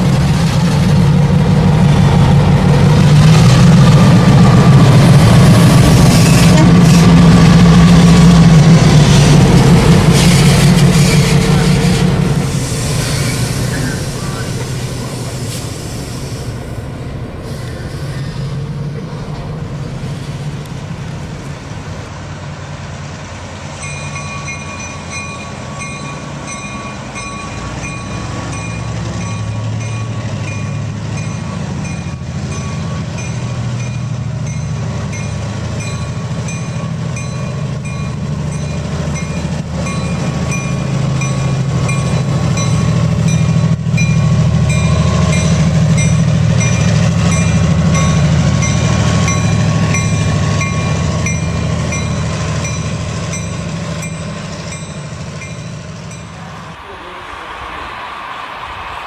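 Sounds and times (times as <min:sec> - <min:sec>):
model train rumbling: 0:00.0 - 0:59.0.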